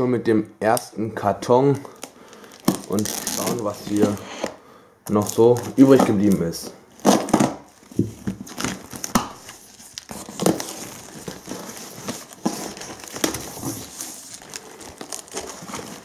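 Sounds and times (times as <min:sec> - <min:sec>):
plastic wrap crinkling: 0:01.8 - 0:04.5, 0:05.1 - 0:16.0.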